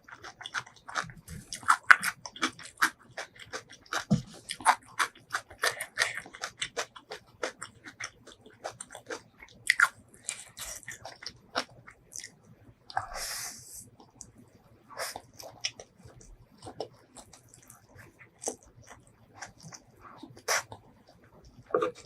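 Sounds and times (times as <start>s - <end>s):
person chewing and biting food: 0.1s - 12.3s, 15.0s - 20.8s, 21.7s - 22.0s.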